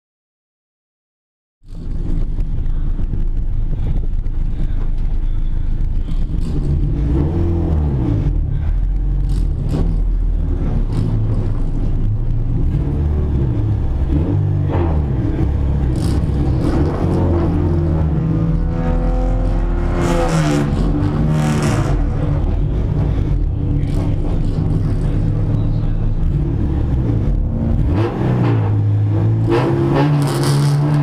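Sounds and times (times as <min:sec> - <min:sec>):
car engine revving: 0:01.7 - 0:31.0.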